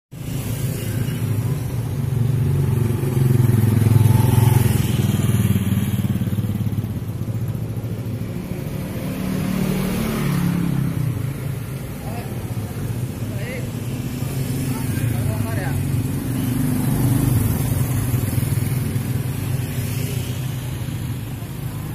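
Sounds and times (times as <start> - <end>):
motorcycle engine passing: 0.9 - 20.0
car engine passing: 2.1 - 21.0.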